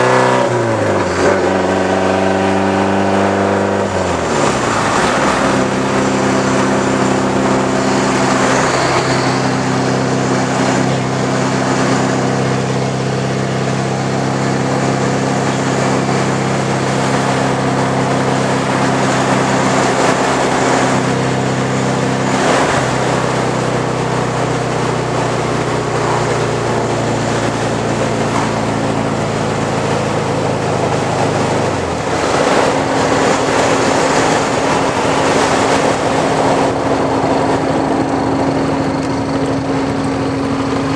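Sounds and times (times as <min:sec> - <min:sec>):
straight-piped car exhaust droning: 0:00.0 - 0:40.9.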